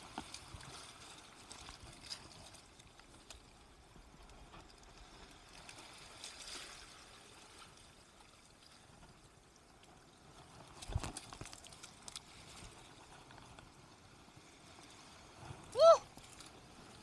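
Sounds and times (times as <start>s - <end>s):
seawater sloshing over rocks: 0.0s - 17.0s.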